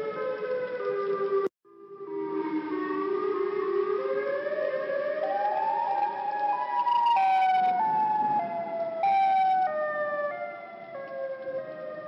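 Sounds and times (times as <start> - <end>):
out-of-tune warning siren: 0.0 - 12.0.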